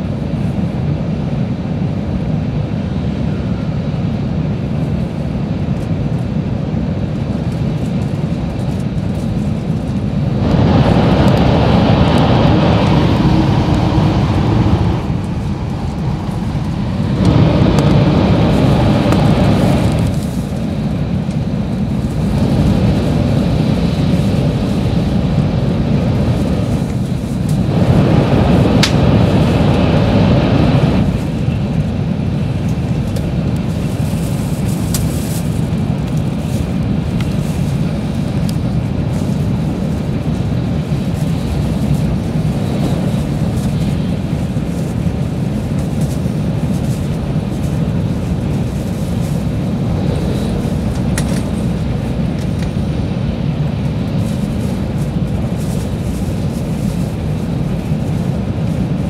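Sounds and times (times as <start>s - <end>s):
train running noise inside car: 0.0s - 59.0s.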